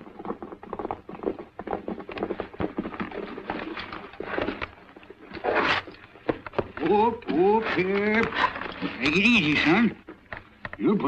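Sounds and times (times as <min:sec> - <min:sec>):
horse hooves clattering: 0:00.0 - 0:11.0.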